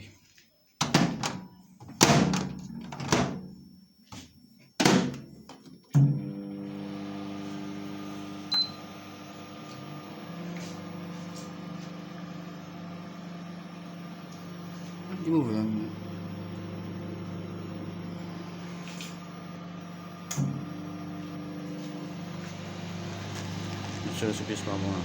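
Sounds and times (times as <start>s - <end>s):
microwave oven humming: 0.8s - 4.2s, 4.8s - 25.0s.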